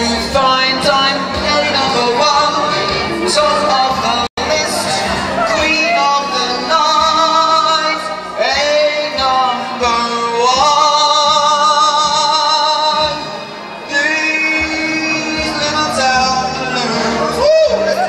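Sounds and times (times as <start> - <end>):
backing music: 0.0 - 18.0.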